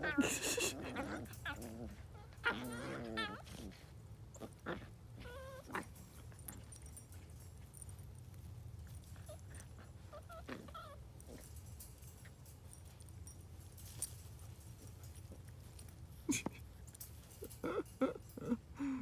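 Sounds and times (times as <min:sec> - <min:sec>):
puppies whining: 0:00.0 - 0:19.0.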